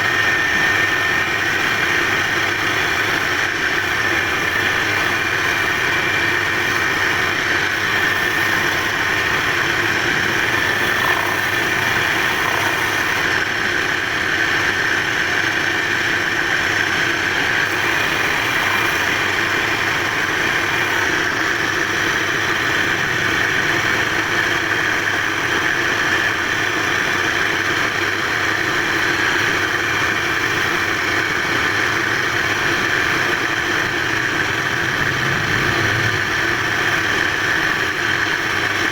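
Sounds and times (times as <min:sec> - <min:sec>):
wood lathe humming: 0:00.0 - 0:38.9.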